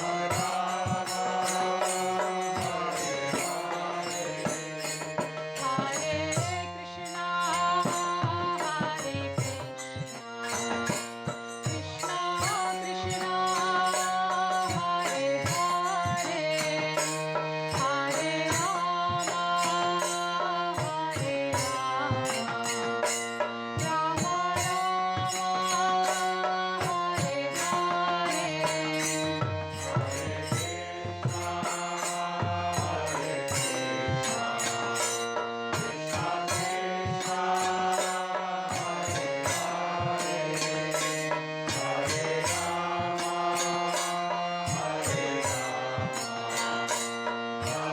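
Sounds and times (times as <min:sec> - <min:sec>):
chanted melody: 0:00.0 - 0:47.9.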